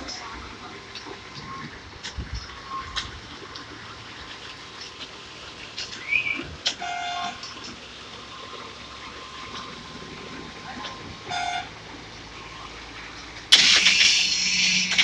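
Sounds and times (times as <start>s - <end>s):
concrete pump drone: 0.0s - 15.0s.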